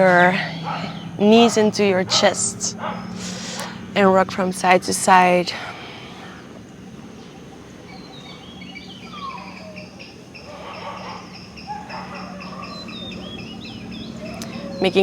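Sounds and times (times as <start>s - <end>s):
birds chirping and singing: 0.0s - 15.0s
steady low hum: 0.0s - 15.0s.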